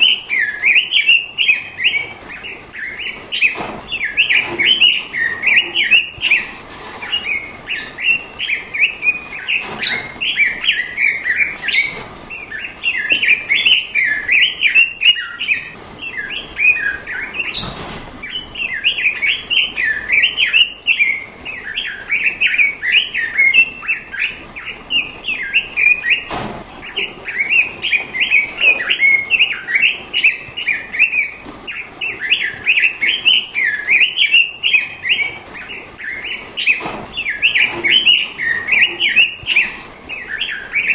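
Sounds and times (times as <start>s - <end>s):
songbird twittering: 0.0s - 40.9s.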